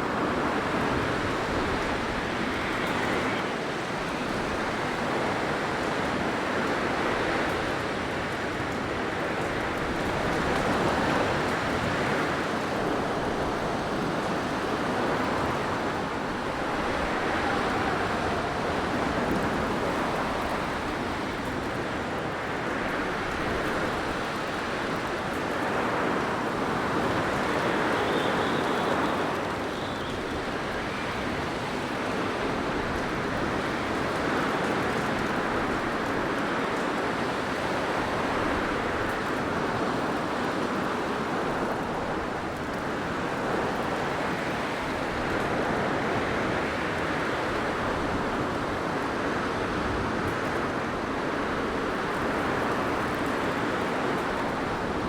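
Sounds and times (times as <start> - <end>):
blizzard wind blowing: 0.0 - 55.0.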